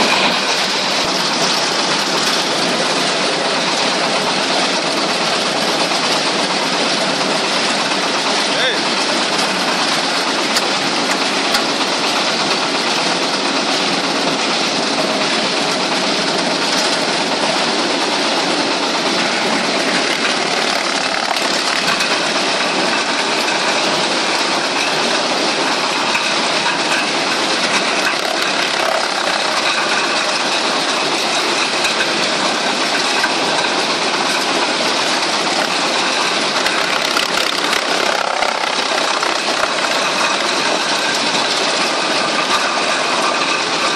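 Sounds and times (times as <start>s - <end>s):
wood chipper running: 0.0s - 43.9s.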